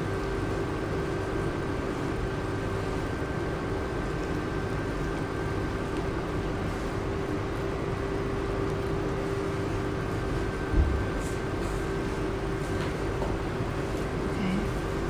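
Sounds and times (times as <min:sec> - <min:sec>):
machine hum with fan hiss: 0:00.0 - 0:15.0.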